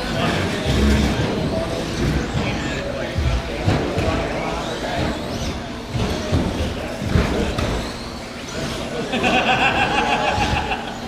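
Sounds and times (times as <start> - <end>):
rc truck motors whining: 0.0 - 9.2.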